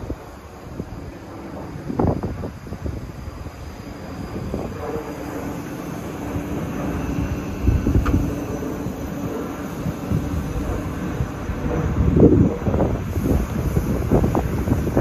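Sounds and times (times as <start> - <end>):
steady train hum: 0.0 - 15.0
train wheels rumbling on track: 0.0 - 15.0.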